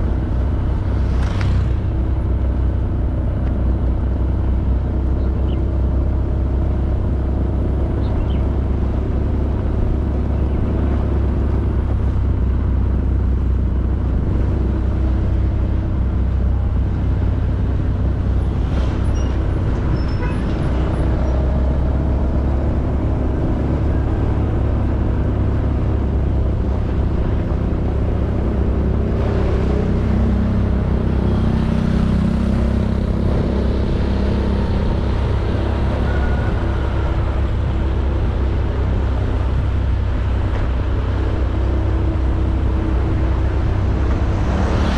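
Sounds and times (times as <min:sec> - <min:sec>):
road and wind noise: 0:00.0 - 0:44.9.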